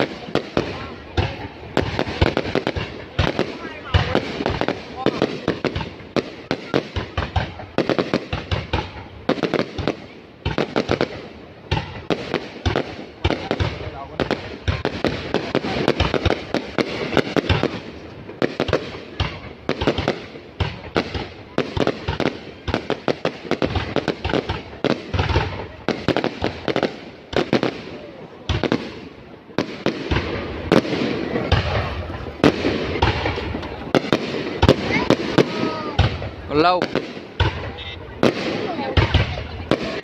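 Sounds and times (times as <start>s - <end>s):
fireworks bangs and cracks: 0.0s - 40.0s.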